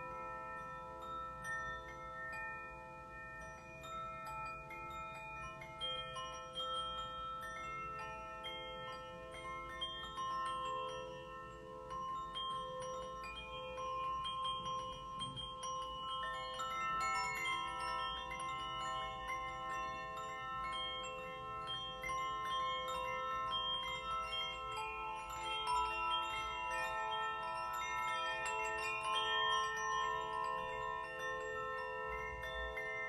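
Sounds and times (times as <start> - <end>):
ringing metal chimes: 0.0 - 33.0.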